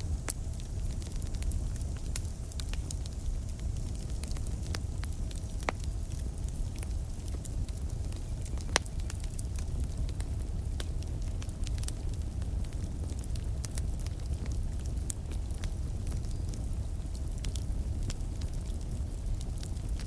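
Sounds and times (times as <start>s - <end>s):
campfire crackling: 0.0s - 20.0s
low rumble of flames: 0.0s - 20.0s.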